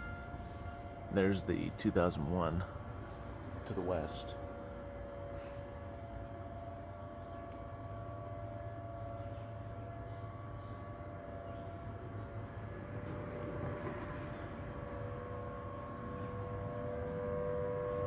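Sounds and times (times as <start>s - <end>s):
distant warning sirens wailing: 0.0s - 18.0s
insects trilling: 0.0s - 18.0s.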